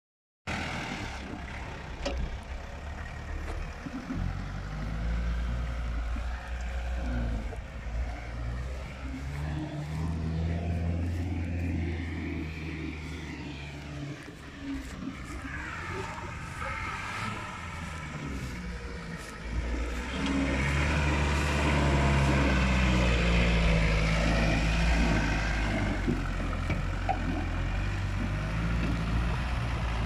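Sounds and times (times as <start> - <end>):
engine labouring revving: 0.5 - 30.0.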